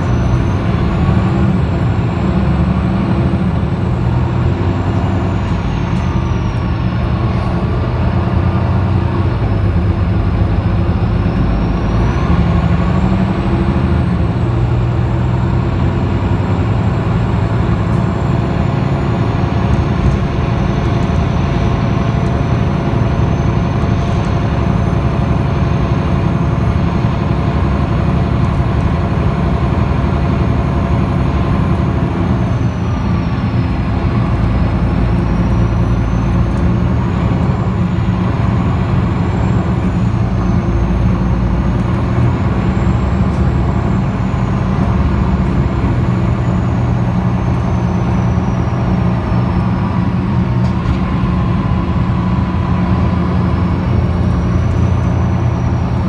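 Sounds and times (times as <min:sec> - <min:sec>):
bus engine drone inside cabin: 0:00.0 - 0:56.0.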